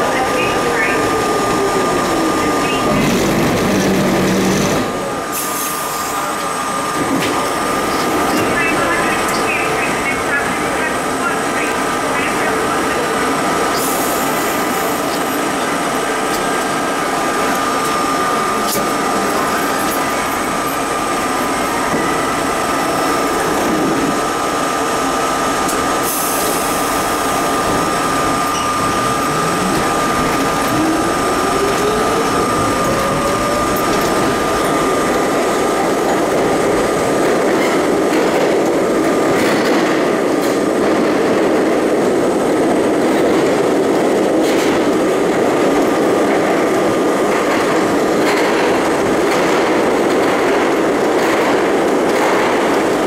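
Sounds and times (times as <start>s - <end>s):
subway train motor whine: 0.0s - 53.0s.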